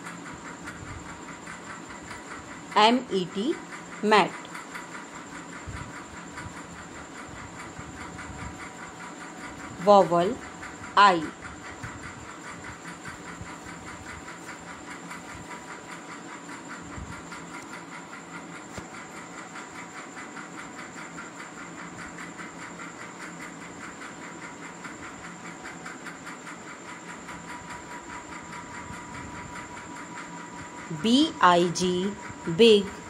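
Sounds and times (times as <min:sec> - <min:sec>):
background hiss and hum: 0:00.0 - 0:33.0.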